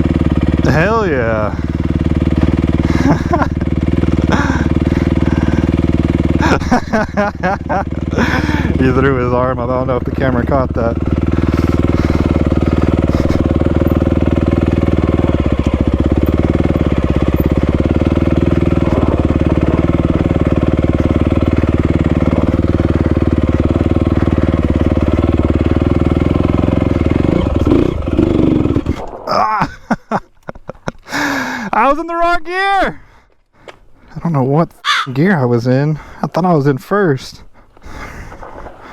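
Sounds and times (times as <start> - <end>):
engine stalling: 0.0 - 31.7
dirt bike engine running: 0.0 - 32.0, 37.5 - 38.9.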